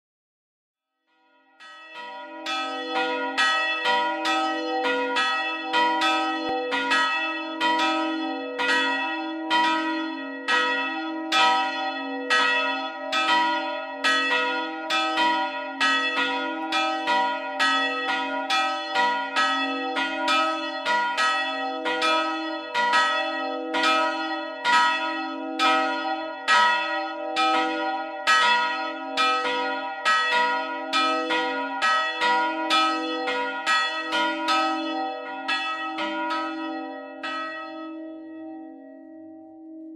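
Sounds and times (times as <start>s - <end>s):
church bells ringing: 1.2s - 39.9s.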